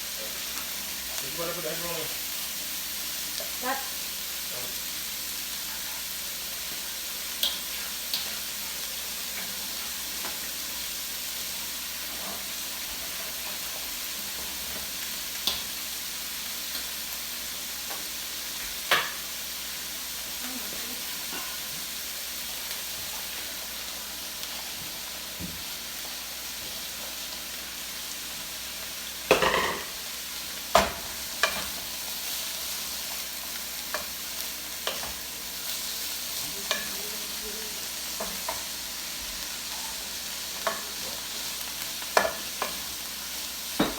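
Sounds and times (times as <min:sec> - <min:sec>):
oil sizzling in a frying pan: 0:00.0 - 0:43.9.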